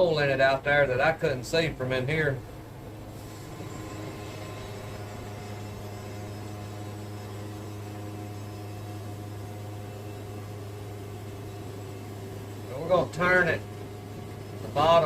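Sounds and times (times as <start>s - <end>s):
band sawmill humming: 0.0s - 15.0s.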